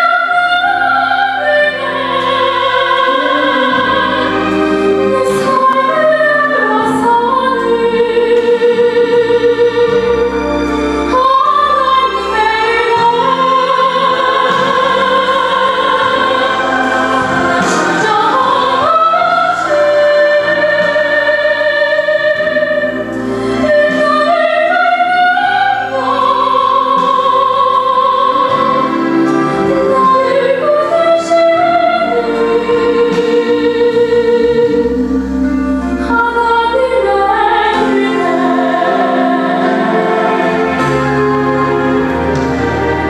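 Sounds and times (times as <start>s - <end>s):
woman singing into microphone: 0.0s - 10.4s, 11.1s - 41.0s
soft instrumental accompaniment: 0.0s - 43.0s.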